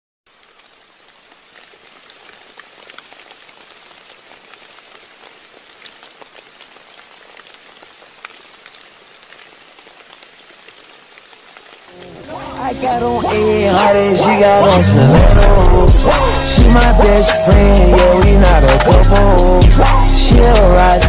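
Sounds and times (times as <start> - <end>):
rain patter: 0.3 - 21.0.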